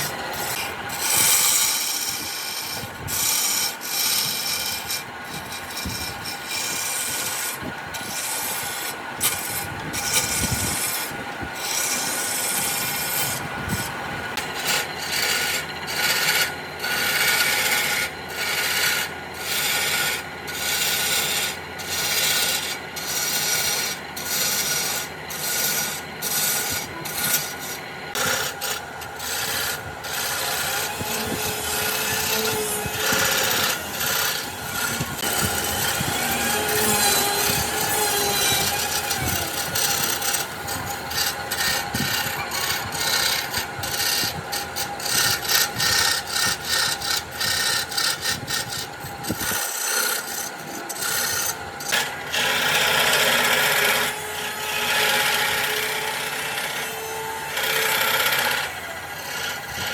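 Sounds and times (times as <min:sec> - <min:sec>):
wood rasping by hand: 0:00.0 - 0:59.9.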